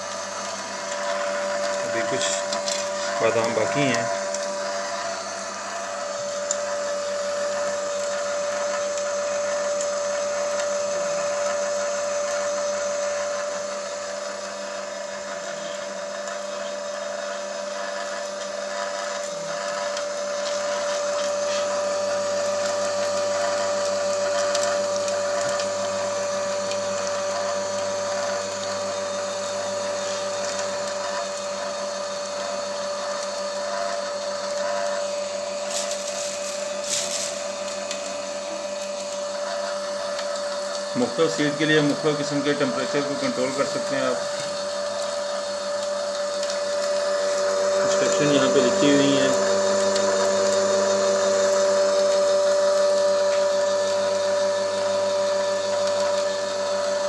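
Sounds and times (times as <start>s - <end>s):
oil press motor whine: 0.0s - 57.0s.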